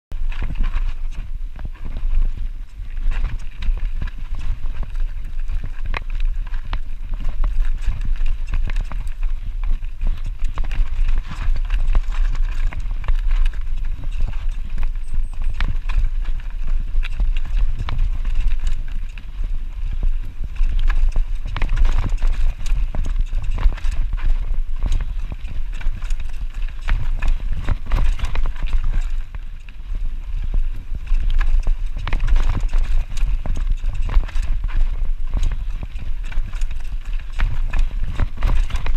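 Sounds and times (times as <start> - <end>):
bike clattering over rough trail: 0.1 - 38.9
wind rumble on camera: 0.1 - 38.9.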